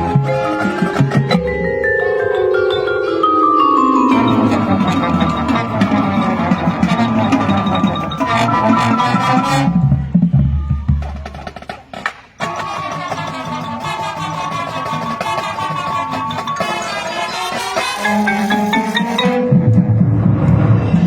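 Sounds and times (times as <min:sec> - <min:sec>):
marching band playing: 0:00.0 - 0:10.3, 0:10.9 - 0:20.7
rhythmic percussion: 0:00.0 - 0:21.0.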